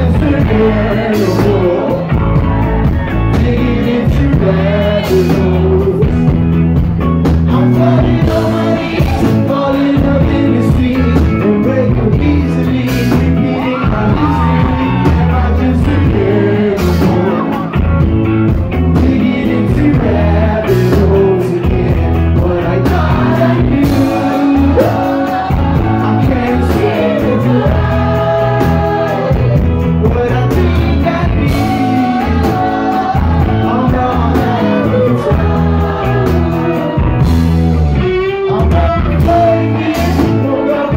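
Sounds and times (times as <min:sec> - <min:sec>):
lead vocal singing: 0:00.0 - 0:40.9
live rock band playing: 0:00.0 - 0:40.9.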